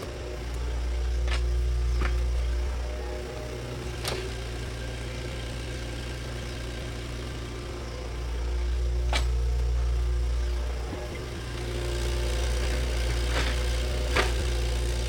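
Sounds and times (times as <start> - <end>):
bulldozer diesel engine: 0.0 - 15.0.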